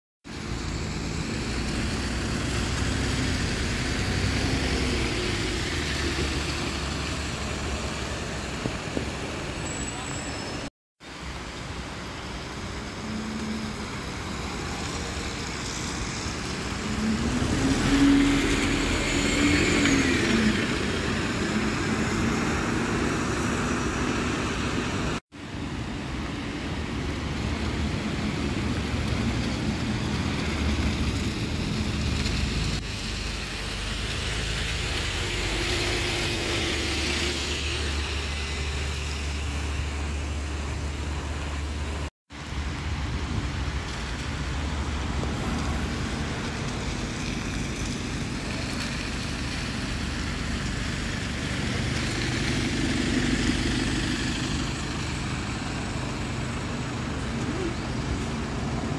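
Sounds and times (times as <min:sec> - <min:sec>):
traffic noise: 0:00.2 - 0:58.9
diesel bus engines: 0:00.3 - 0:58.9.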